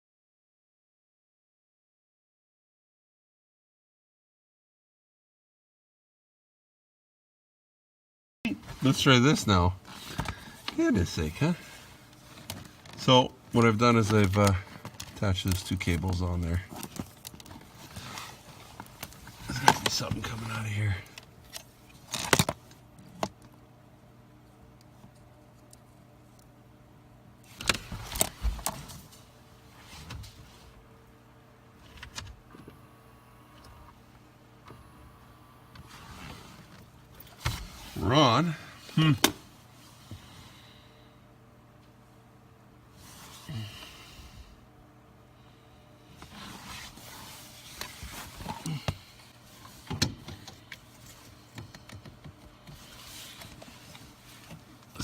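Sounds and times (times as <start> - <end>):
low electrical hum: 8.5 - 55.0.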